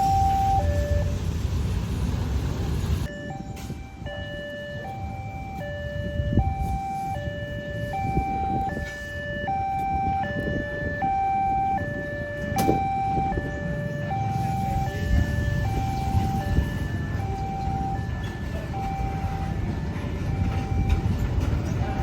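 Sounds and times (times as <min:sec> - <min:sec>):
level crossing two-tone alarm: 0:00.0 - 0:01.1, 0:03.0 - 0:21.2
road traffic rumble: 0:00.0 - 0:22.0.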